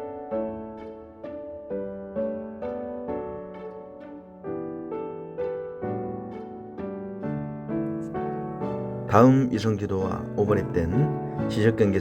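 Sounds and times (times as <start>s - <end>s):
plucked piano-like music notes: 0.0s - 12.0s.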